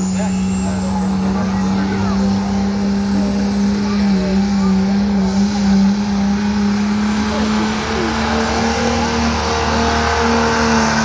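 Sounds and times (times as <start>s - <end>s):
diesel truck engine running hard: 0.0s - 11.0s.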